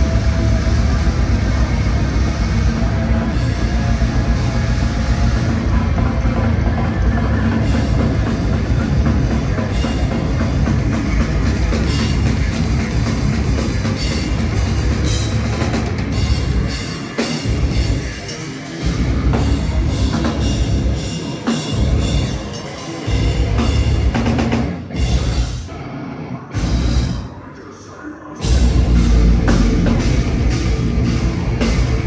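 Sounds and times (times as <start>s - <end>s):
pounding drum kit: 0.0s - 25.8s, 26.6s - 27.5s, 28.4s - 32.0s
heavy metal band playing live: 0.0s - 32.0s.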